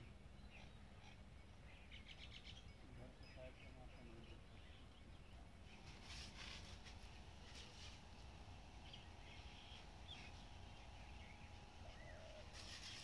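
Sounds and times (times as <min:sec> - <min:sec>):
faint bird chirps: 0:00.0 - 0:06.8, 0:08.8 - 0:13.0.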